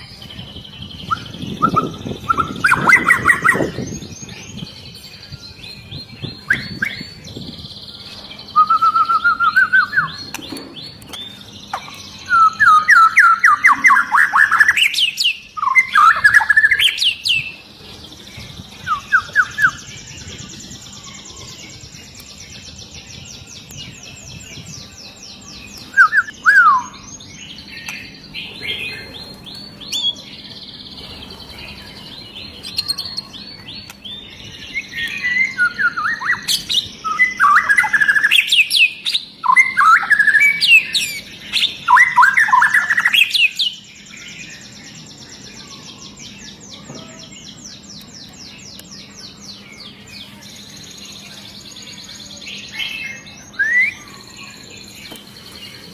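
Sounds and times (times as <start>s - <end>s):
bird singing whistled phrases: 0.0s - 4.7s, 5.3s - 10.4s, 11.1s - 17.6s, 18.8s - 23.2s, 24.2s - 30.3s, 32.0s - 44.7s, 45.4s - 55.2s.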